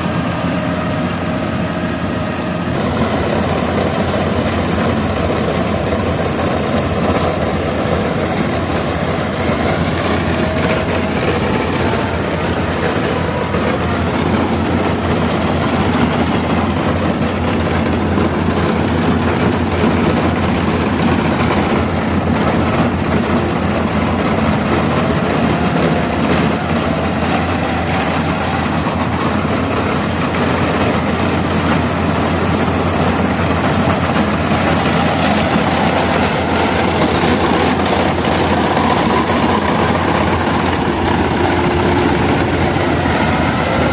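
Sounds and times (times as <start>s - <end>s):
diesel engine running: 0.0s - 43.9s
threshing machinery working: 0.0s - 43.9s.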